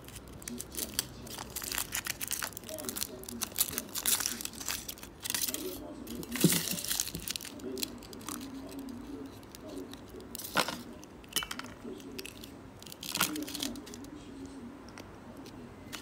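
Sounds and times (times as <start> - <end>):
foil wrapper crinkling and tearing: 0.0 - 11.0, 12.1 - 14.1.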